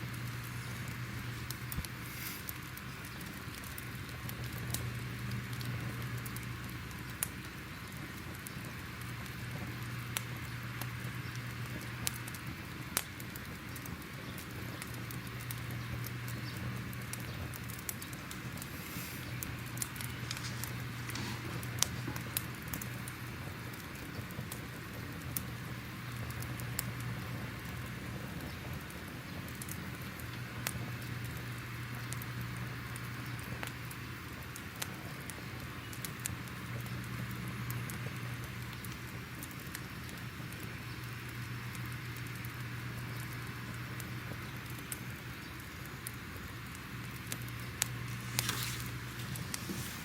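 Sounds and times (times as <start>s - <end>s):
fire crackling and popping: 0.0s - 50.0s
low steady hum: 0.0s - 50.0s
steady fire hiss: 0.0s - 50.0s.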